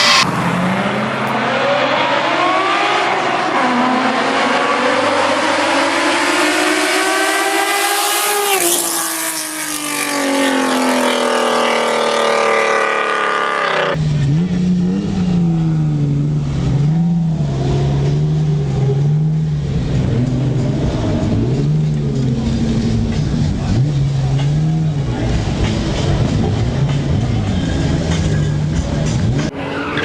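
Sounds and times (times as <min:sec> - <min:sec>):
car engine passing: 0:00.0 - 0:30.0
car engine revving: 0:00.0 - 0:30.0.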